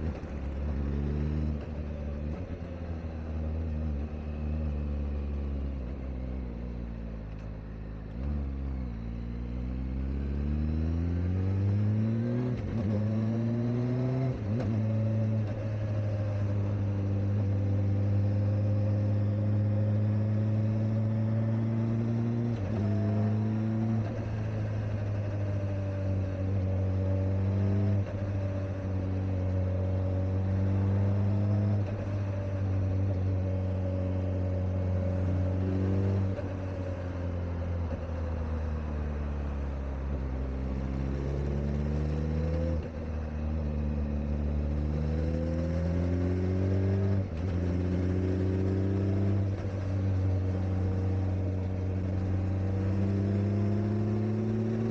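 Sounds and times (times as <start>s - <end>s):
motorcycle engine through gear changes: 7.0s - 54.9s.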